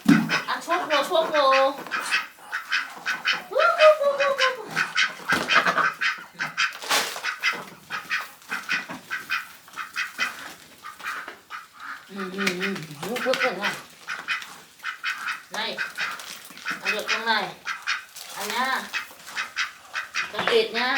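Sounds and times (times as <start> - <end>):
ducks quacking: 0.0 - 20.9.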